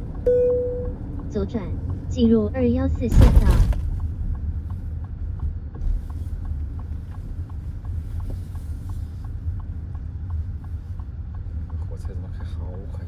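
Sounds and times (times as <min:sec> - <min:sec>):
turn signal ticking: 0:00.0 - 0:02.8, 0:04.1 - 0:13.0
car rumbling on road: 0:00.0 - 0:13.0.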